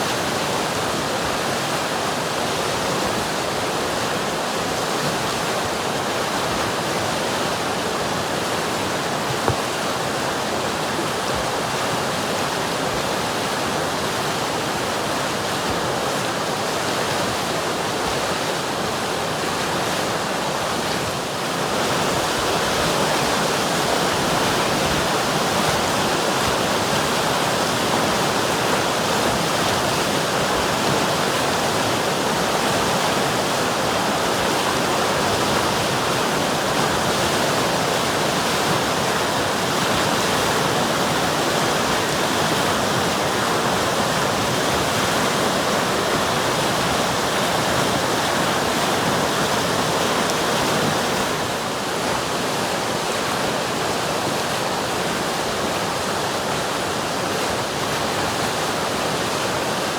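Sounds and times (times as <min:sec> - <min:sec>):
river water rushing and splashing: 0:00.0 - 0:59.9.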